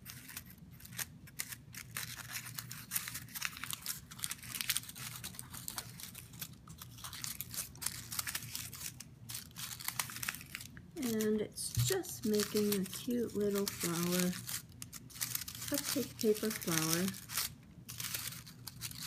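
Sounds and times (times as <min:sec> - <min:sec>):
paper liners crinkling: 0:00.0 - 0:19.0
steady low hum: 0:02.6 - 0:19.0.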